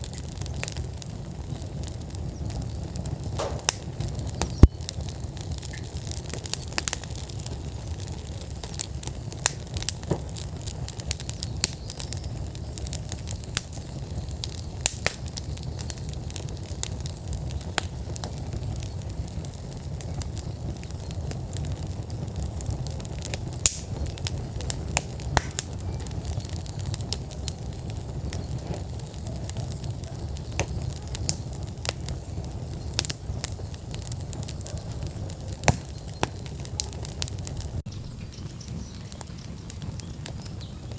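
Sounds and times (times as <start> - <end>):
sharp pops of burning logs: 0.0 - 40.9
wood fire crackling: 0.0 - 40.9.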